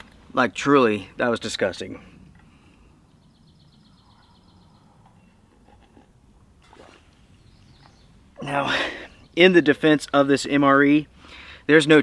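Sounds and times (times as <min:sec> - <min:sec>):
faint forest ambience: 0:00.0 - 0:11.8.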